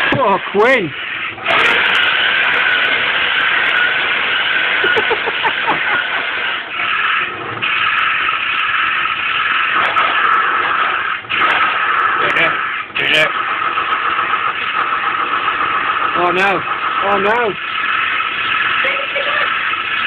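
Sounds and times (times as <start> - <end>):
toy tank motor drone: 0.0 - 20.0.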